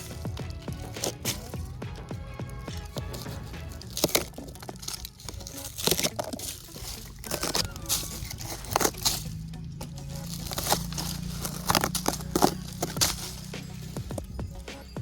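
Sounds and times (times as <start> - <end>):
background music: 0.0 - 15.0
dry wood crunching: 0.0 - 15.0.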